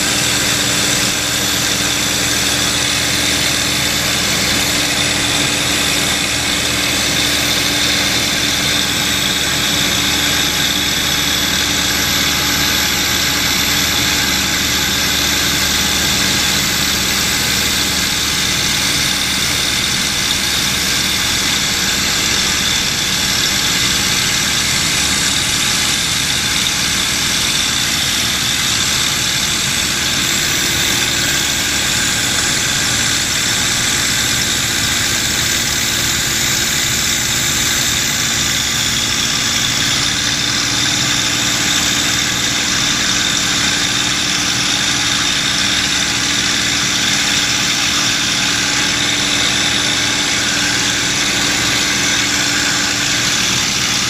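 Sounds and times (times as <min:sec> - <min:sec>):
aircraft engine running in flight: 0:00.0 - 0:54.0.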